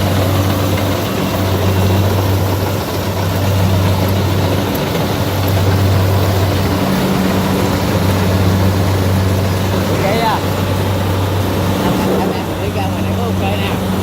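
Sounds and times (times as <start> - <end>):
combine harvester engine hum: 0.0 - 14.0
harvesting machinery noise: 0.0 - 14.0.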